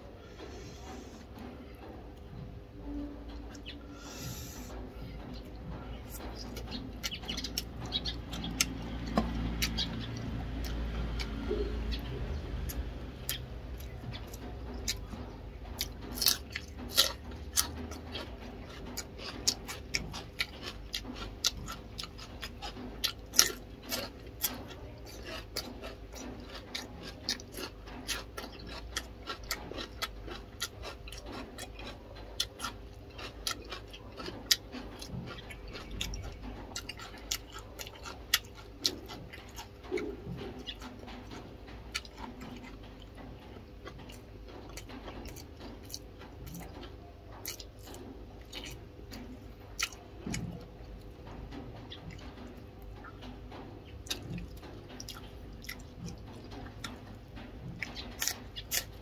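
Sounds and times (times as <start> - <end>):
crunchy chewing: 3.3 - 59.0.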